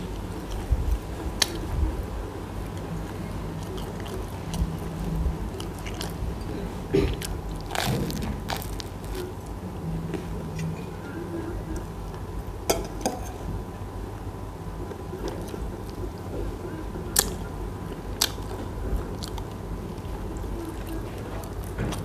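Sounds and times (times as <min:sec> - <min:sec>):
person chewing bread: 0:00.0 - 0:10.7, 0:14.8 - 0:22.0.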